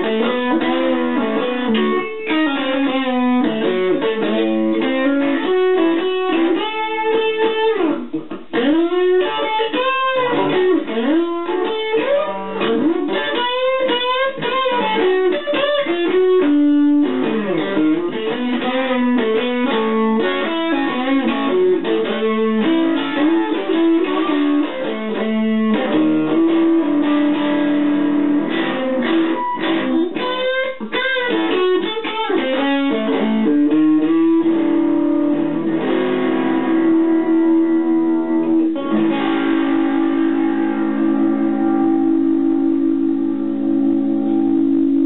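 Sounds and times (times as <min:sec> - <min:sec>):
electric guitar blues licks: 0:00.0 - 0:45.0
guitar chord ringing: 0:00.0 - 0:45.0.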